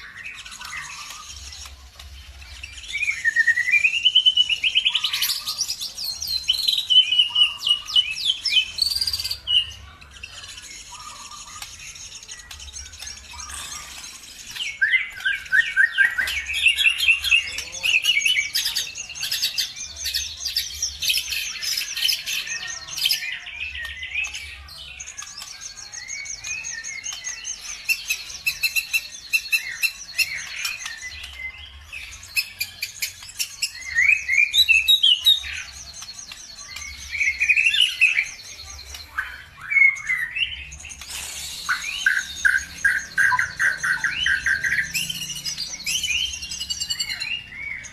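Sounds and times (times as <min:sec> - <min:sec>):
small songbirds chirping and trilling: 0:00.0 - 0:47.9.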